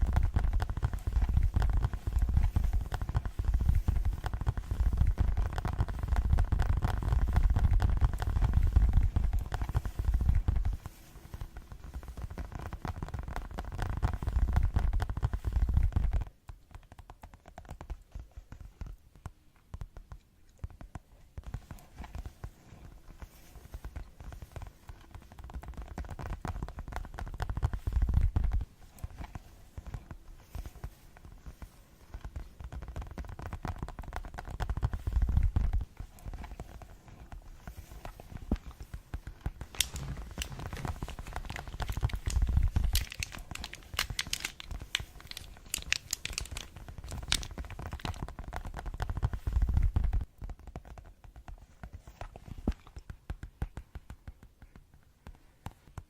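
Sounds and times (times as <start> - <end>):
rapid fingertip tapping: 0.0 - 56.0.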